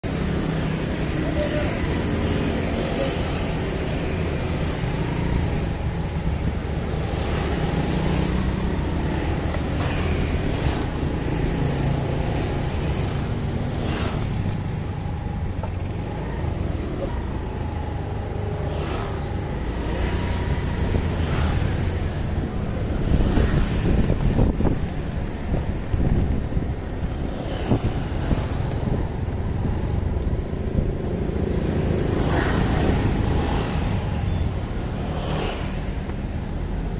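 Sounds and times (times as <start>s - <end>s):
street traffic: 0.0s - 36.9s
scooters passing: 0.1s - 36.9s.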